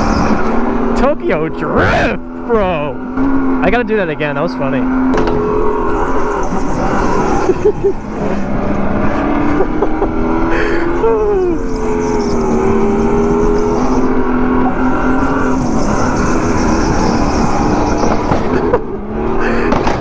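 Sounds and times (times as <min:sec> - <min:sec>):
go-kart engines racing: 0:00.0 - 0:20.0.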